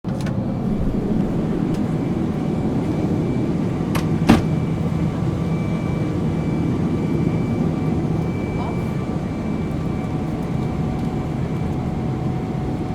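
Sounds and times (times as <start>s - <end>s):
airplane cabin engine drone: 0.1s - 12.9s.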